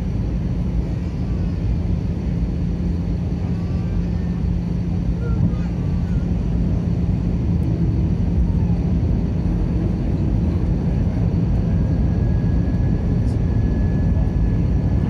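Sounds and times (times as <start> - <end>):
constant hum: 0.0 - 15.0
engine and airflow rumble: 0.0 - 15.0.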